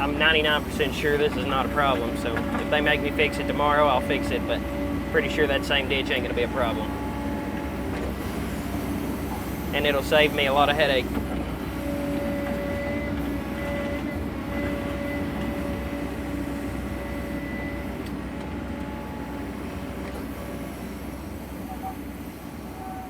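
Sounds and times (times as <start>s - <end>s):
engine whine: 0.0s - 23.0s
excavator engine running: 0.0s - 23.0s.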